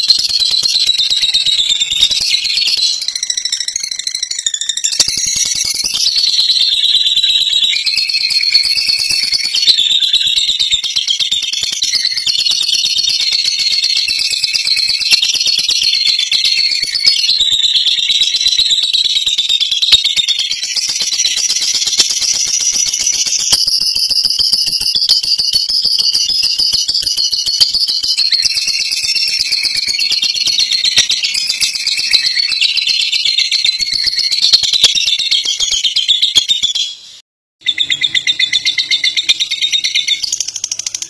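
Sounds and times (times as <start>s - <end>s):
lovebird rattling chatter: 0.0s - 17.3s, 20.2s - 36.4s, 37.7s - 41.0s.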